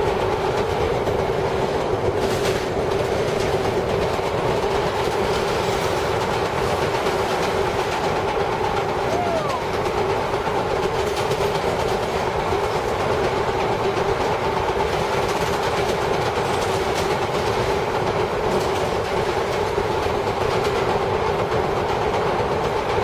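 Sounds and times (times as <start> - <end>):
subway car rumbling: 0.0 - 23.0
wheels clacking on rails: 0.0 - 23.0.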